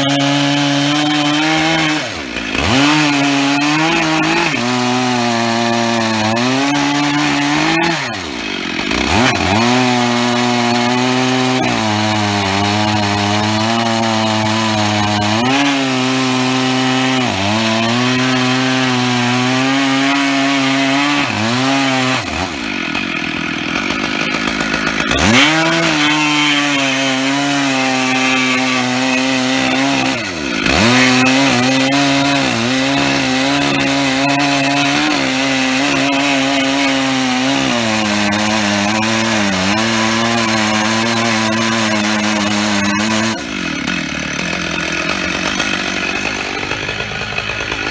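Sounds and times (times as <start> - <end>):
chainsaw cutting log: 0.0 - 47.9.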